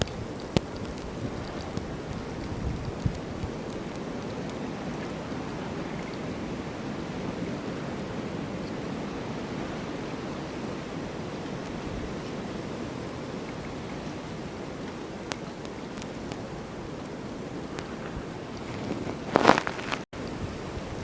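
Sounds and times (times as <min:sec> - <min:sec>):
rushing wind of snowstorm: 0:00.0 - 0:21.0.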